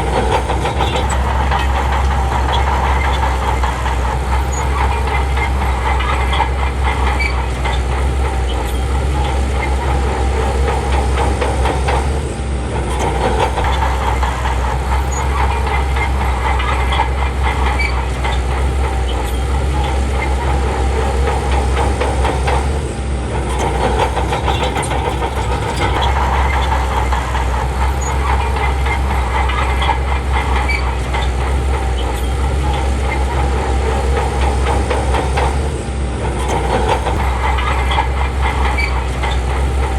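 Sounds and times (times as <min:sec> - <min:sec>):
bulldozer diesel engine running: 0:00.0 - 0:39.9
steel tracks rattling: 0:00.0 - 0:39.9.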